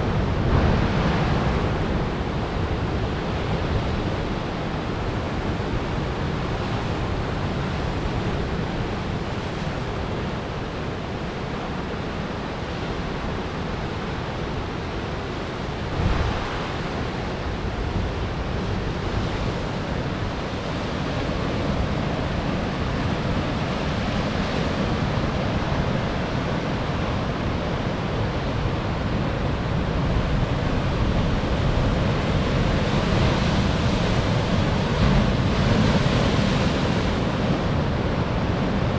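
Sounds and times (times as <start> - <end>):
wind on microphone: 0.0 - 11.0, 12.9 - 38.9.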